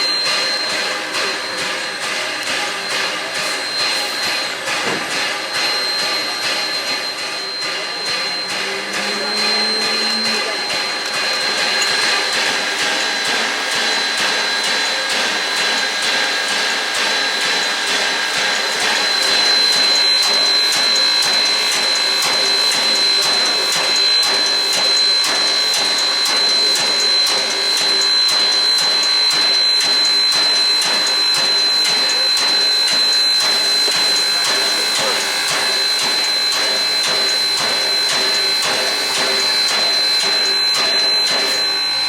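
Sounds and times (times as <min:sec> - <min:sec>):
steam locomotive venting steam: 0:00.0 - 0:42.0.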